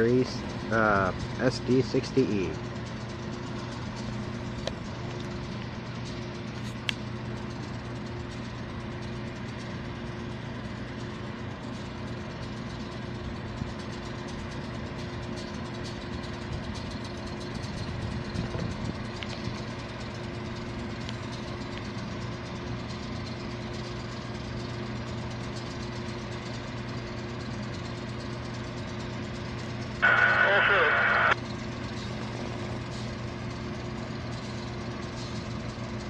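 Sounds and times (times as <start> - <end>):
diesel locomotive engines droning: 0.0 - 36.0.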